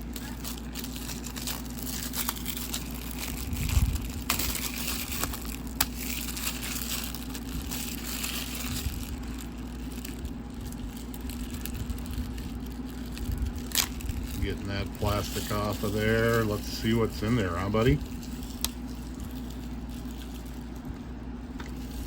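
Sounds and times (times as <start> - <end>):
plastic shrink-wrap tearing and crinkling: 0.0 - 22.0.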